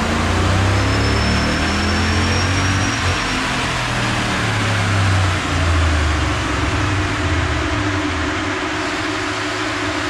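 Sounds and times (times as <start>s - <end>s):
engine running on dyno: 0.0s - 10.0s.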